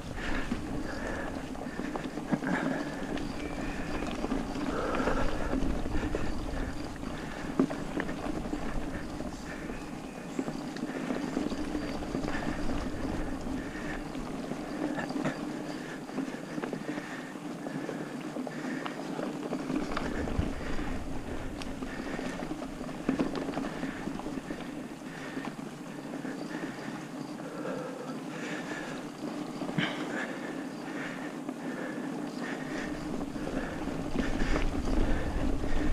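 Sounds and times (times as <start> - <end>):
bike rattling over bumps: 0.0 - 35.9
bike tyres rolling on dirt: 0.0 - 35.9.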